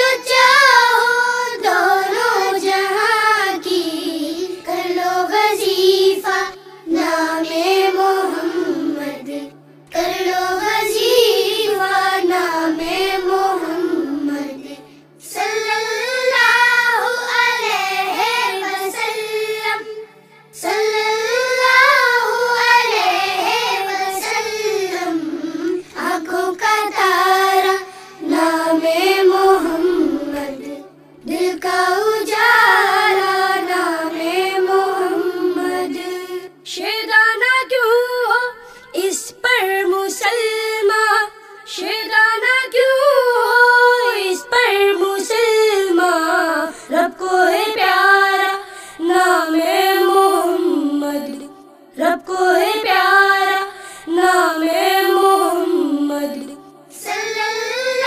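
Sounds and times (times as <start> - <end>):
child singing: 0.0 - 58.0.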